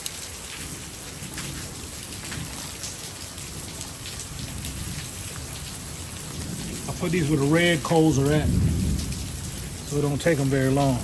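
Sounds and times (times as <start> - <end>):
raindrops pattering: 0.0 - 11.0
steady pouring rain: 0.0 - 11.0.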